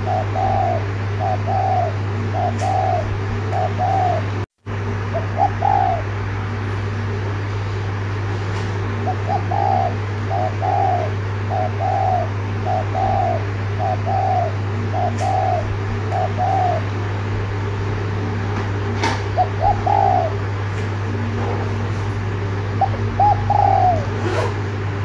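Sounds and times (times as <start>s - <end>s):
dove cooing: 0.0s - 4.4s, 5.0s - 7.1s, 8.9s - 17.0s, 18.8s - 24.8s
steady low hum: 0.0s - 25.0s.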